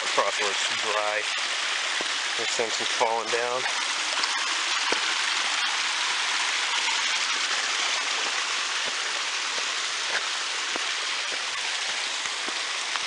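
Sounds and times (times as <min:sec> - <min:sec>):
flowing water: 0:00.0 - 0:13.0.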